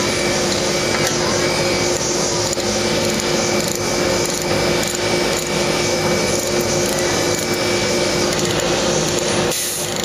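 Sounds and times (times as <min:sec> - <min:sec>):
steady machine hum: 0:00.0 - 0:10.0.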